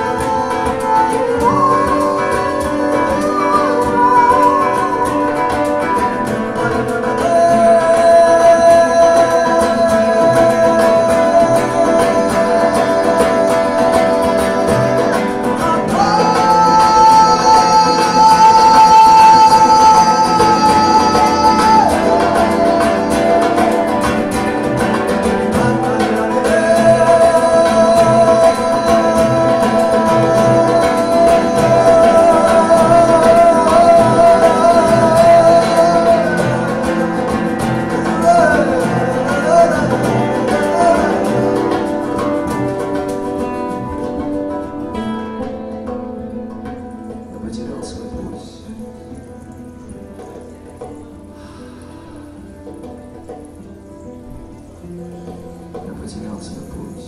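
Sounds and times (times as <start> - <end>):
nylon-string guitar strummed: 0.0 - 57.0.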